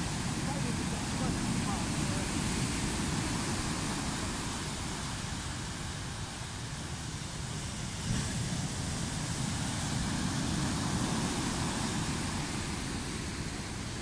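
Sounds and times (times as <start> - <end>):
sea surf breaking on beach: 0.0 - 14.0.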